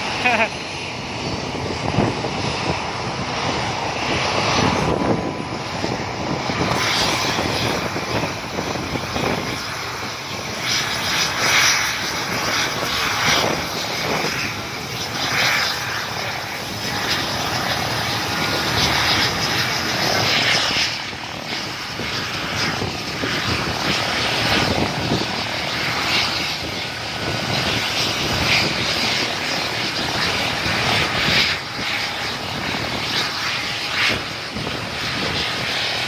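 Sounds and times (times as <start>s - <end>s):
helicopter engines and rotor: 0.0s - 36.0s.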